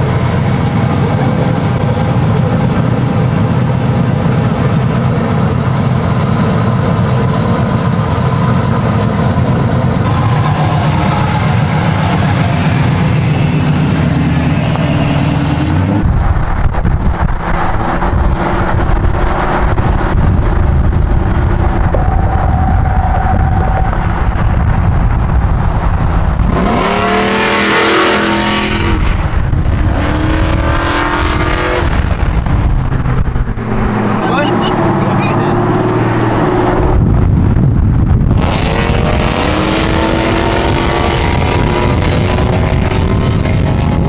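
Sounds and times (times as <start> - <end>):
vehicle engine under load: 0.0 - 44.0.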